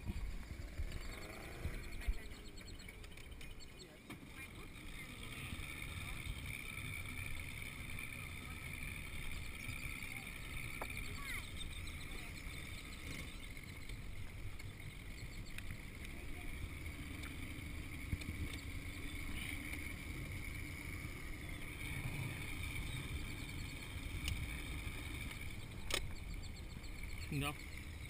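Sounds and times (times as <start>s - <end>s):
motorboat engine rumbling: 0.0s - 28.0s.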